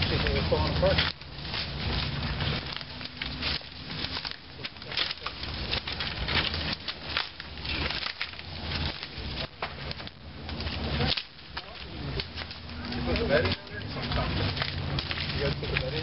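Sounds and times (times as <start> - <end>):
brush rustling: 0.0 - 16.0
sticks cracking and snapping: 0.0 - 16.0.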